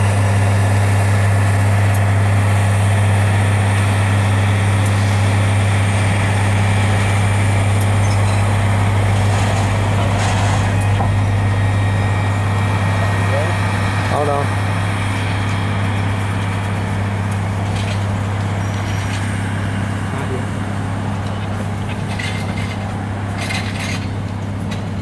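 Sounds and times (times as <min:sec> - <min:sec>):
diesel train engines humming: 0:00.0 - 0:25.0.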